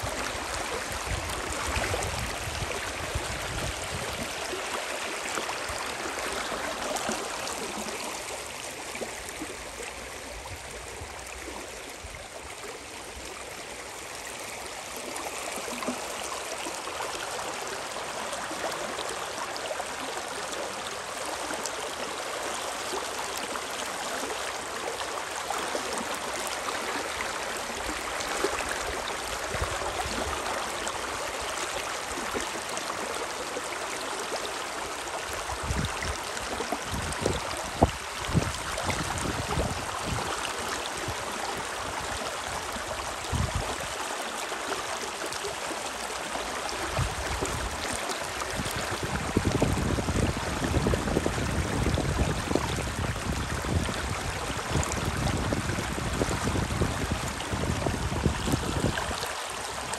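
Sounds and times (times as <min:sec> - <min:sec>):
river water rushing and gurgling: 0:00.0 - 0:59.9.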